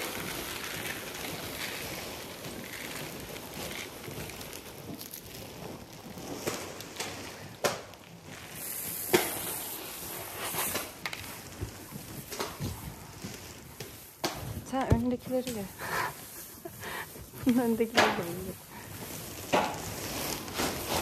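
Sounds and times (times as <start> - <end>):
straw rustling and crackling: 0.0 - 21.0.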